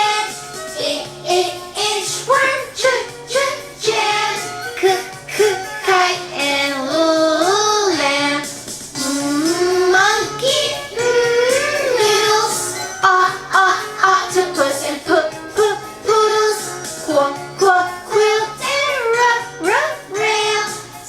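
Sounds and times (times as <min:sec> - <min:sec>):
backing music track: 0:00.0 - 0:21.0
voices singing children's song: 0:00.0 - 0:21.0.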